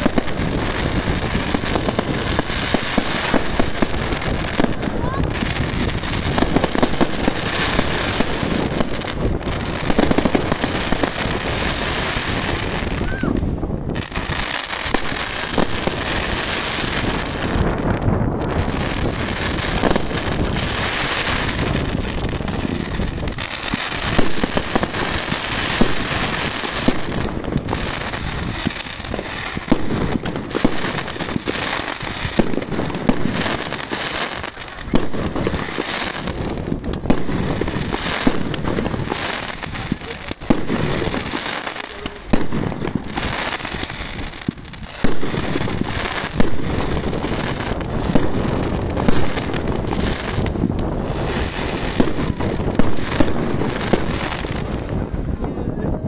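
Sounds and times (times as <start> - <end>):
fireworks crackling: 0.0 - 56.0
fireworks launching and bursting: 0.0 - 56.0.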